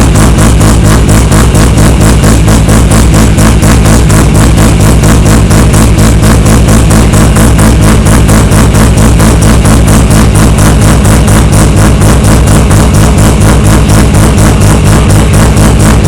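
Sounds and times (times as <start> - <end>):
rotary engine idling: 0.0 - 16.0.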